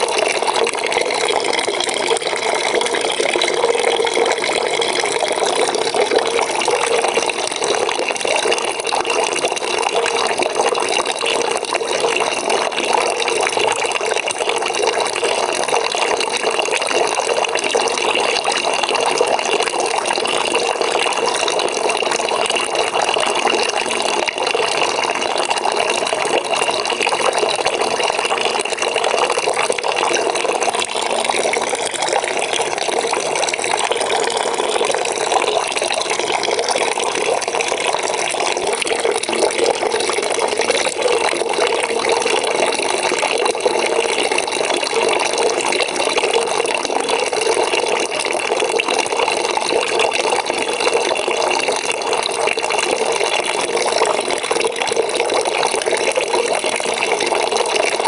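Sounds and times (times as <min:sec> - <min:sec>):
water pouring into a bucket: 0:00.0 - 0:58.0.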